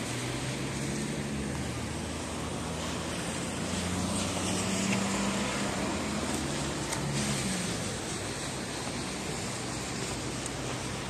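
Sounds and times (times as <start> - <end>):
rain hiss: 0.0 - 11.0
vehicle engine humming: 0.0 - 11.0.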